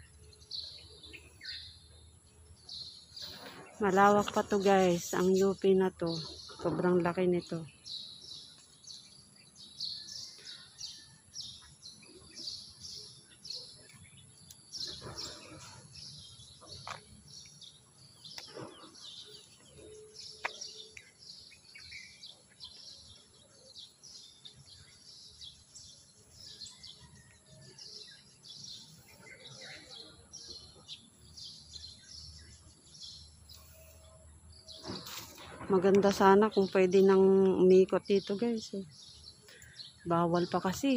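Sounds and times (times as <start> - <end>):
birds chirping: 0.0 - 40.9
faint outdoor background noise: 0.0 - 40.9.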